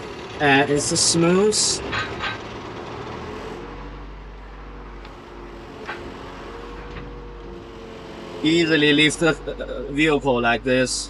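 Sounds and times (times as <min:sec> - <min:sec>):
engine whine: 0:00.0 - 0:11.0
excavator diesel engine running: 0:00.0 - 0:11.0.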